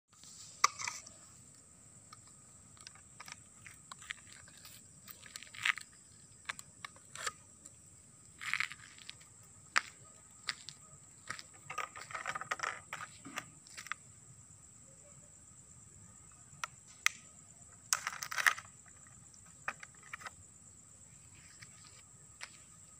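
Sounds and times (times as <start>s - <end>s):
high insect drone: 0.2s - 22.9s.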